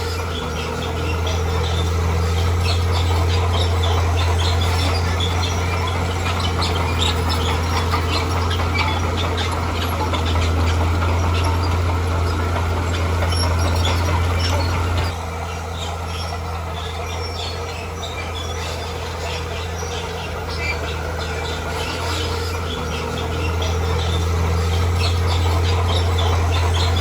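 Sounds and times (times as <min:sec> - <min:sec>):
diesel engine droning: 0:00.0 - 0:27.0
track squeaks and clinks: 0:00.0 - 0:27.0.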